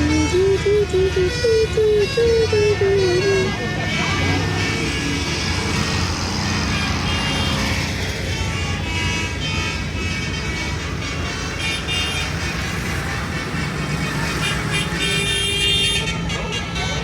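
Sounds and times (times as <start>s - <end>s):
tractor engines running: 0.0s - 17.0s.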